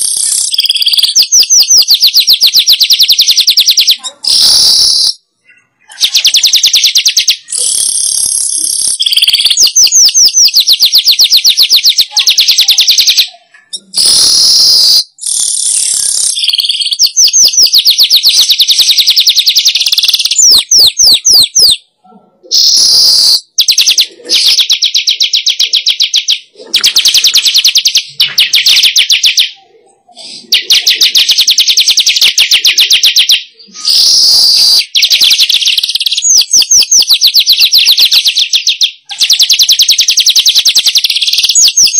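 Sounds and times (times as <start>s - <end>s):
recorded bird song buzzing chatter: 0.0s - 41.9s.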